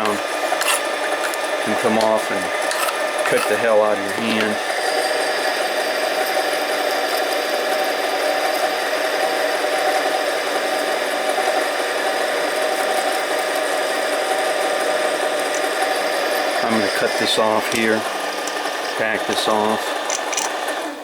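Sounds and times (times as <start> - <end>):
lathe motor whining and rattling: 0.0 - 21.0.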